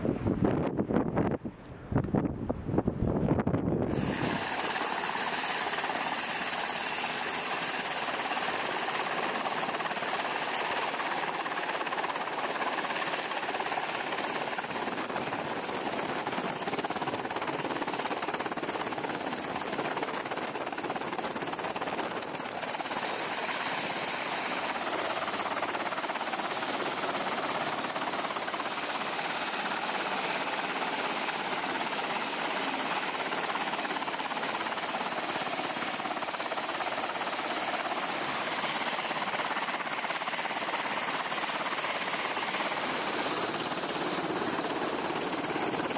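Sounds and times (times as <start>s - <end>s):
aircraft turbine engines running: 0.0s - 45.9s.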